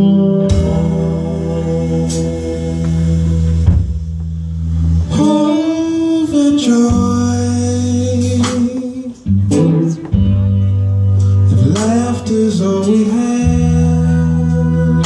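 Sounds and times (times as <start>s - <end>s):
man singing: 0.0s - 3.7s, 5.1s - 10.4s, 11.5s - 15.0s
electric guitar: 0.0s - 15.0s
held low notes: 0.0s - 15.0s.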